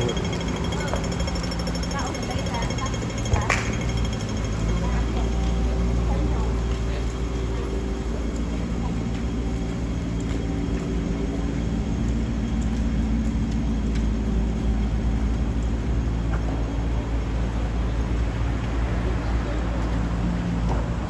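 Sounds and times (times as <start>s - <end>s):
constant hum: 0.0s - 21.0s
vehicle rumble: 0.0s - 21.0s.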